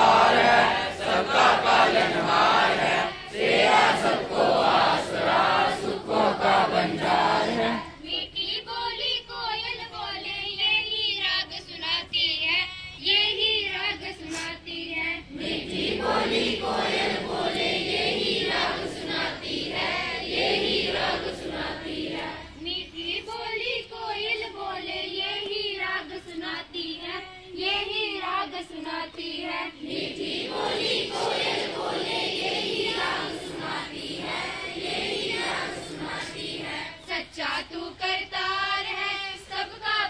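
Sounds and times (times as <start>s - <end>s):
students singing in chorus: 0.0s - 10.2s, 13.6s - 40.0s.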